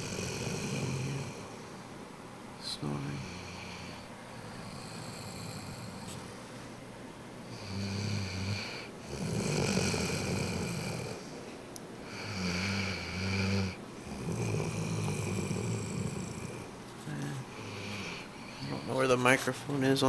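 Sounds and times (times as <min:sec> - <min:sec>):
dog snoring: 0:00.0 - 0:01.8, 0:02.8 - 0:06.4, 0:07.4 - 0:11.4, 0:12.0 - 0:19.3.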